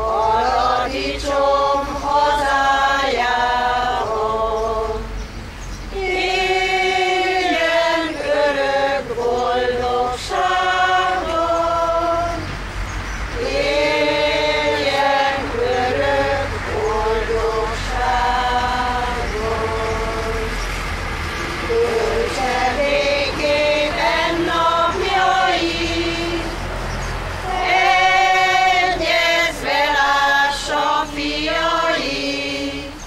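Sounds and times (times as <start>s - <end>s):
choir singing slow song: 0.0s - 33.0s.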